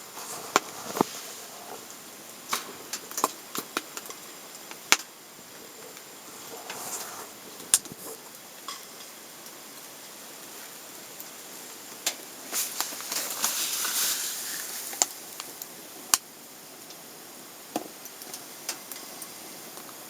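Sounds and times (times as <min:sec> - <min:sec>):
wood fire hissing and crackling: 0:00.0 - 0:20.0.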